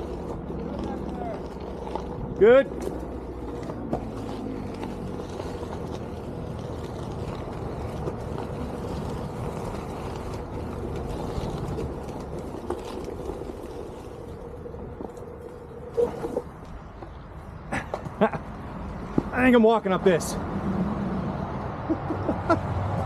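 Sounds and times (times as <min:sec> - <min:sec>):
tyre rolling noise: 0:00.0 - 0:19.4.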